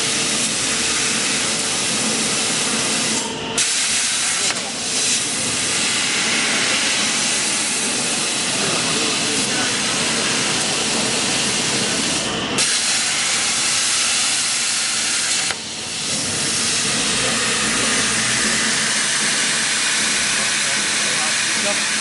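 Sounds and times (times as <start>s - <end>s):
plasma torch hissing: 0.4s - 22.0s.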